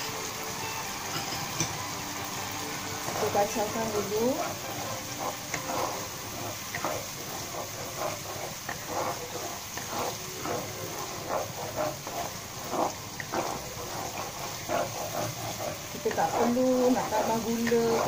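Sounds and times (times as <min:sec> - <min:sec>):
sauce sizzling in oil: 0:00.0 - 0:18.0
wooden spatula scraping pan: 0:00.8 - 0:18.0.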